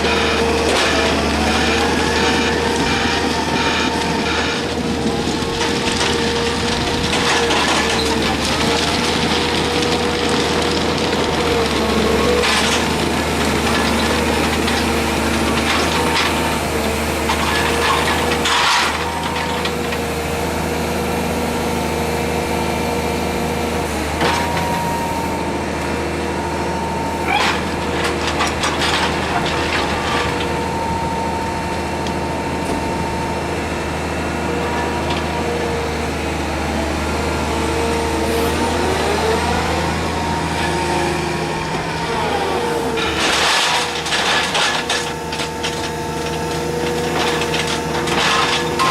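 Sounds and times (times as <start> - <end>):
diesel engine running with whine: 0.0 - 48.9.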